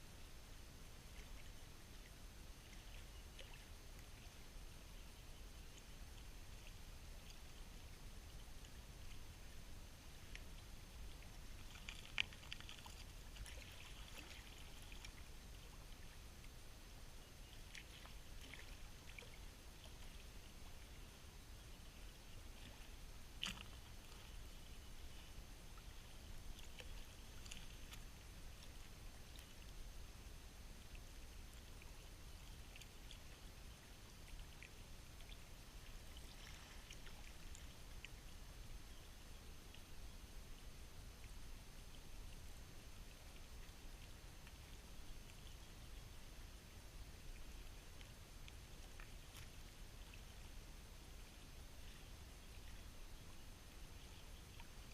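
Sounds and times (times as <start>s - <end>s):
faint trickling water: 0.0s - 54.9s.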